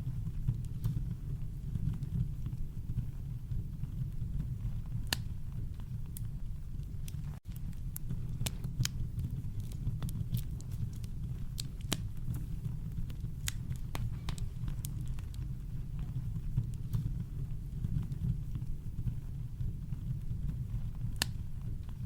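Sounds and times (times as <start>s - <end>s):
campfire crackling: 0.0s - 22.0s
low rumble of brown noise: 0.0s - 22.0s.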